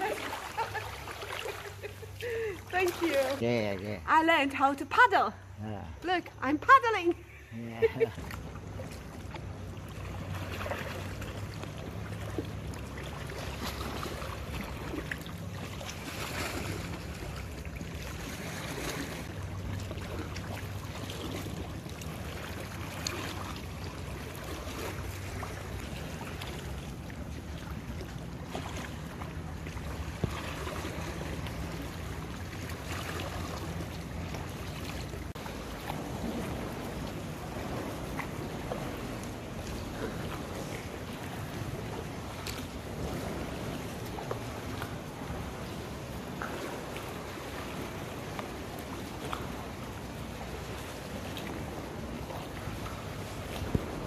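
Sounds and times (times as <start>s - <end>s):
paddle strokes splashing: 0.0s - 3.4s, 7.3s - 54.0s
water lapping: 0.0s - 54.0s.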